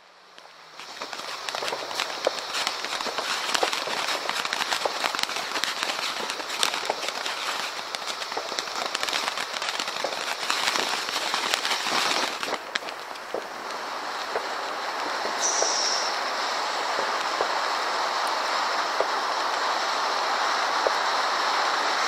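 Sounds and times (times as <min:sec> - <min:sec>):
firework crackling pops: 0:00.0 - 0:22.0
firework fountain hiss: 0:00.0 - 0:22.0.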